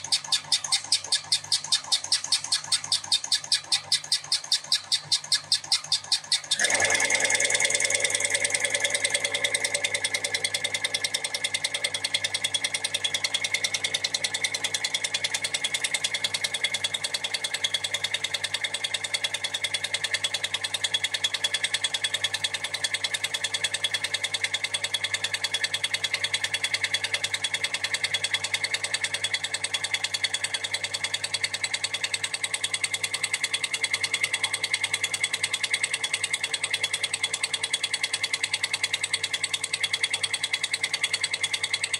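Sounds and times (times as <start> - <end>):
test bench drive running: 0.0 - 41.9.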